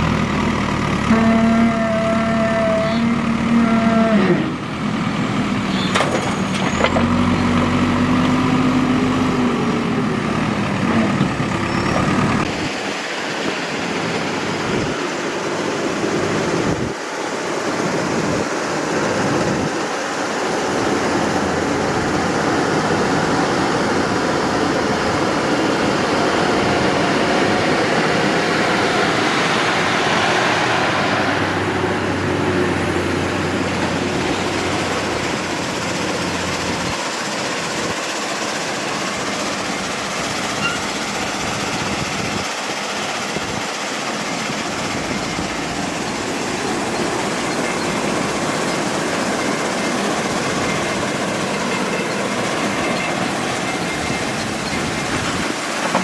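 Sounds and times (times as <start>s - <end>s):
heavy diesel engine under load: 0.0s - 56.0s
noisy engine running steadily: 0.0s - 56.0s.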